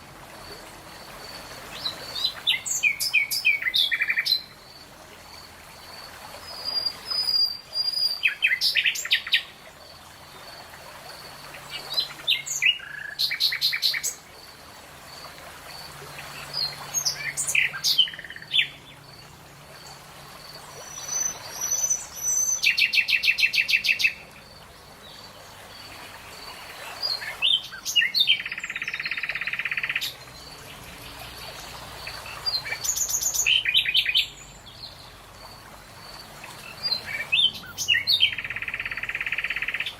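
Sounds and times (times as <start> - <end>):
songbirds singing: 0.5 - 14.3, 15.8 - 39.9.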